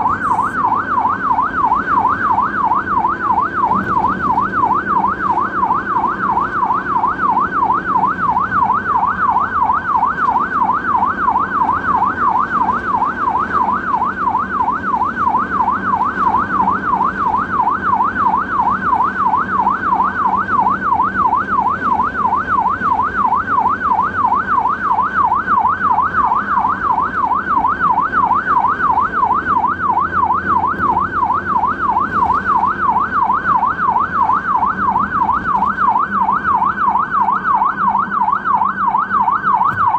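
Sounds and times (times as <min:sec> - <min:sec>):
ambulance siren yelping: 0:00.0 - 0:39.9
low vehicle hum: 0:00.0 - 0:39.9.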